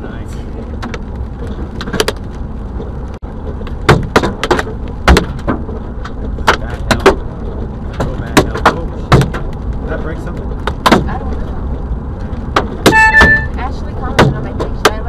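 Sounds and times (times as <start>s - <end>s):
car driving on wet road: 0.0s - 15.0s
hailstones striking car: 0.6s - 15.0s.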